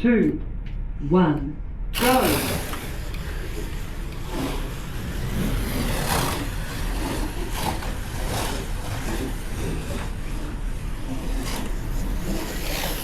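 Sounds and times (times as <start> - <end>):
slot car motors whining: 1.9 - 13.0.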